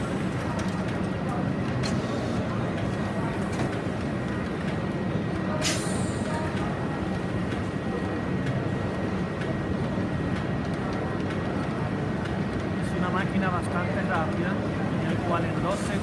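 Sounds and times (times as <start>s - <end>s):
exhibition hall din: 0.0s - 16.0s.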